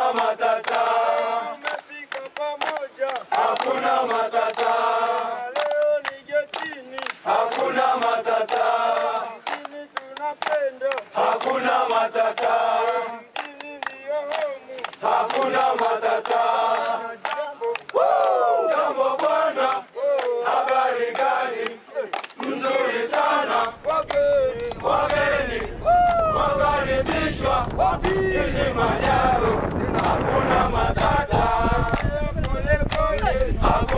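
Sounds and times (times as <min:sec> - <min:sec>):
group of voices chanting: 0:00.0 - 0:33.9.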